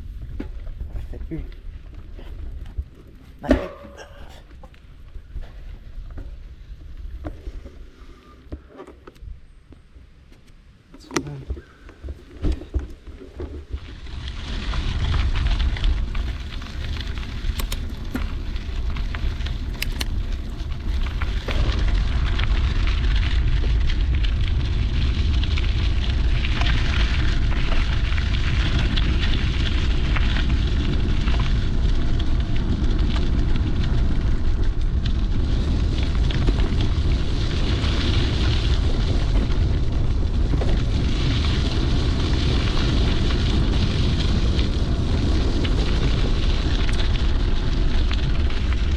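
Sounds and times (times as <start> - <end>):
bike tyres rolling over trail: 0.0 - 48.9.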